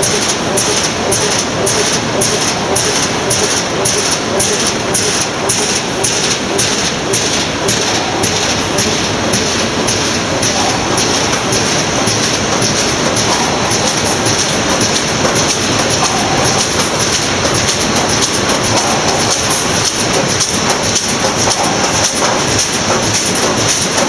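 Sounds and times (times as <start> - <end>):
loud steady machine noise: 0.0 - 24.0
rollers and sheet clattering: 0.0 - 24.0.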